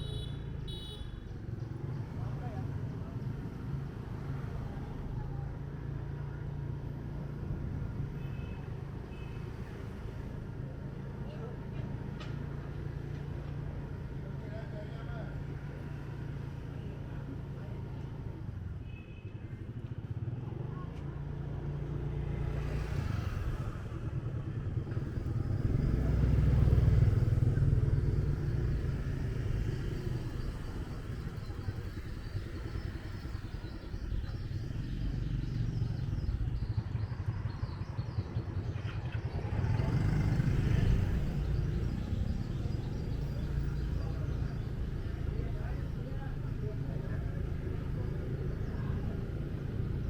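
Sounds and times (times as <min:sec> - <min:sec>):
road noise: 0:00.0 - 0:50.0.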